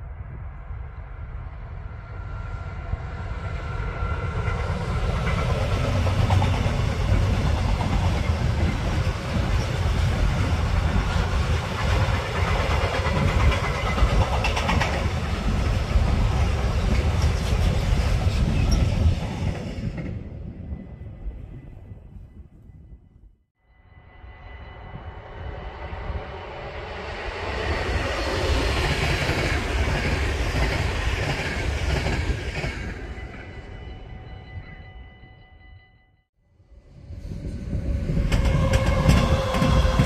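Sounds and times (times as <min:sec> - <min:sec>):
train passing rumble: 0:00.0 - 0:23.3, 0:23.9 - 0:36.0, 0:36.6 - 0:40.0.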